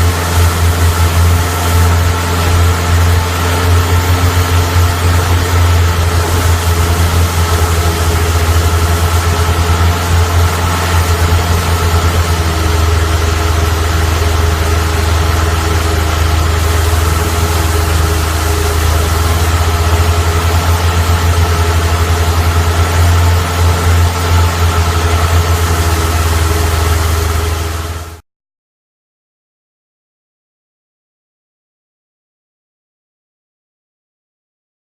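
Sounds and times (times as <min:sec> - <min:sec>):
boat engine humming: 0:00.0 - 0:28.2.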